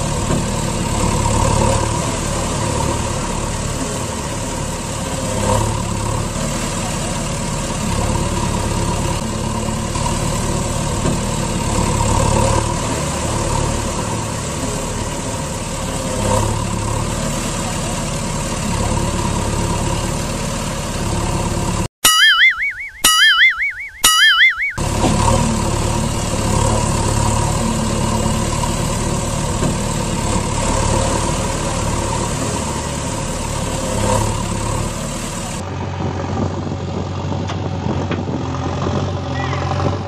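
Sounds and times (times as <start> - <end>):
truck engine idling: 0.0 - 21.9, 24.8 - 40.0.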